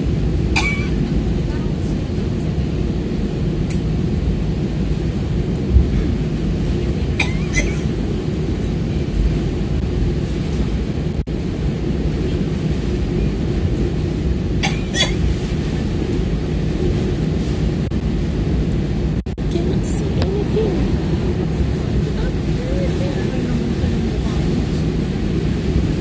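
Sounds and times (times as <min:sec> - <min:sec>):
airliner cabin rumble: 0:00.0 - 0:26.0
heavy rain downpour: 0:00.0 - 0:26.0.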